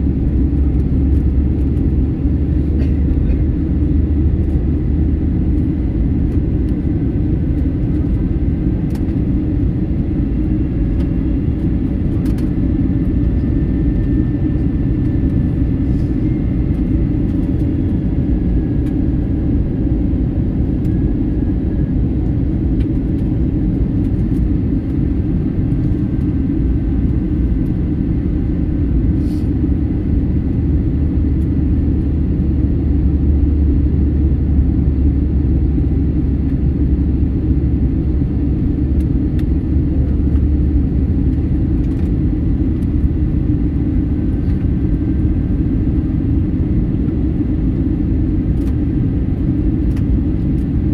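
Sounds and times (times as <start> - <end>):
airliner engines rumbling: 0.0 - 50.9.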